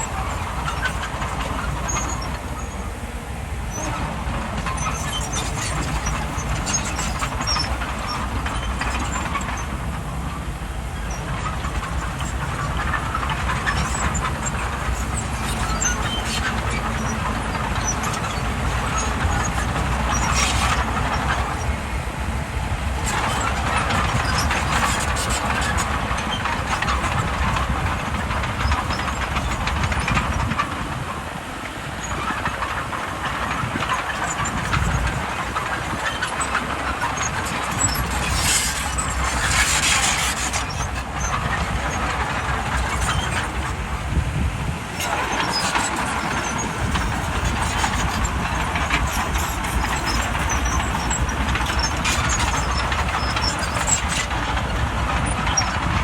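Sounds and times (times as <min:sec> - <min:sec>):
bulldozer diesel engine: 0:00.0 - 0:56.0
steel tracks clattering: 0:00.0 - 0:56.0.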